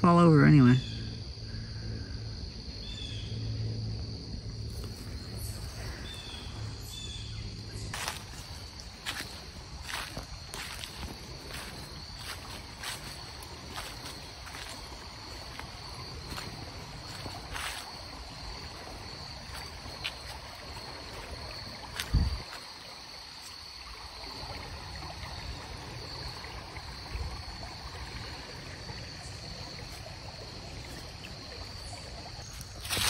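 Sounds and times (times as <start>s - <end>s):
high insect drone: 0.0s - 33.0s
creek water over rocks: 4.4s - 33.0s.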